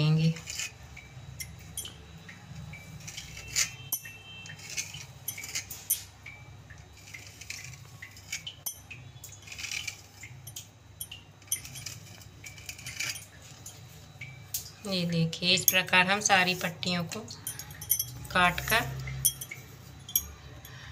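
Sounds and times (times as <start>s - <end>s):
low steady hum: 0.0s - 20.9s
glass bangles clinking: 0.5s - 2.1s, 2.7s - 14.8s, 15.6s - 20.9s.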